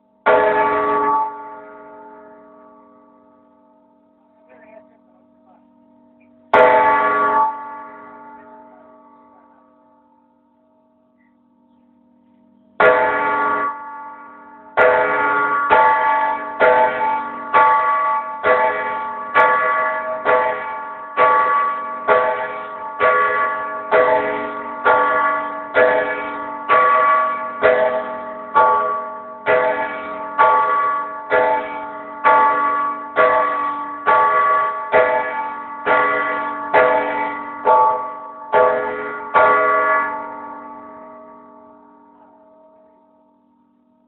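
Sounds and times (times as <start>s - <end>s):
church bell ringing: 0.0s - 44.0s.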